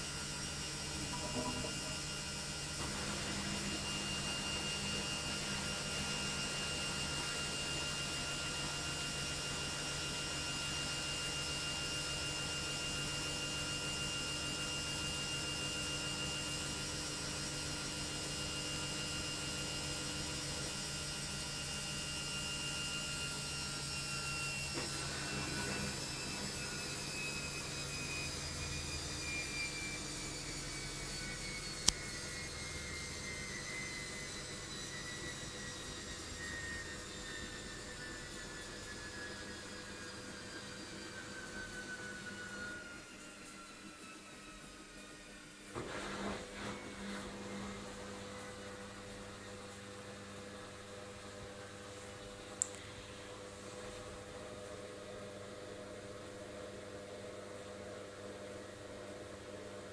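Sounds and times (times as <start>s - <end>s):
washing machine spinning whine: 0.0s - 59.9s.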